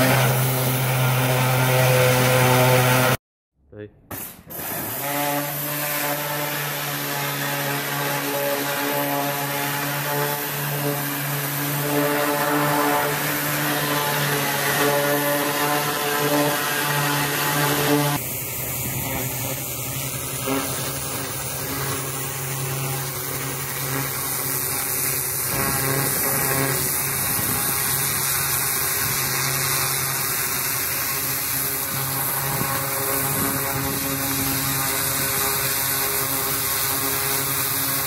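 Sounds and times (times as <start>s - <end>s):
pressure washer machine hum: 0.0s - 3.2s, 4.5s - 38.0s
pressure washer spray hissing: 6.3s - 38.0s.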